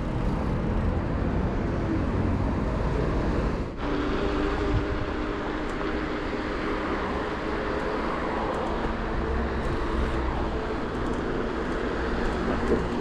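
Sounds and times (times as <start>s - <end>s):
wind and tyre noise: 0.0s - 13.0s.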